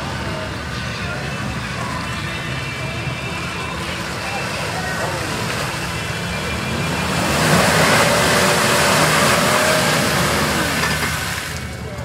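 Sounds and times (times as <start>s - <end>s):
truck engine revving under load: 1.4s - 11.8s
tyres churning mud: 1.5s - 12.0s.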